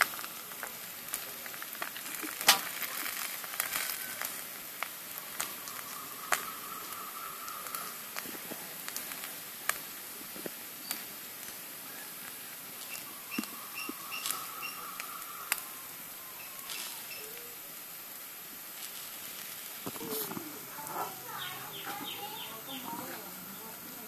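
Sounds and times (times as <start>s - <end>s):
food sizzling on griddle: 0.0s - 24.0s.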